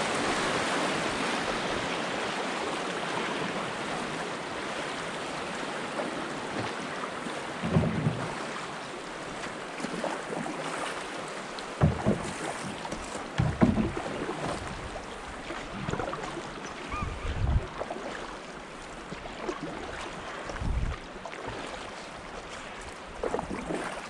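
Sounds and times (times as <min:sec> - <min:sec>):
water rushing around canoe hull: 0:00.0 - 0:24.0.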